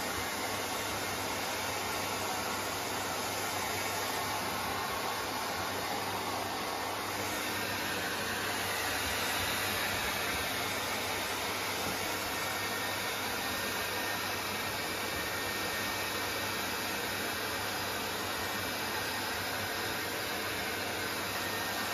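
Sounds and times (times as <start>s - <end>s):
hair dryers blowing air: 0.0s - 21.9s.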